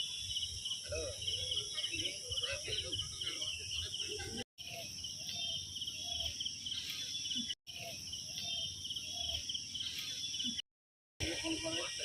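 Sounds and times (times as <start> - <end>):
fast pulsing insect chirp: 0.0 - 10.6, 11.2 - 12.0
insects chirring: 0.0 - 10.6, 11.2 - 12.0.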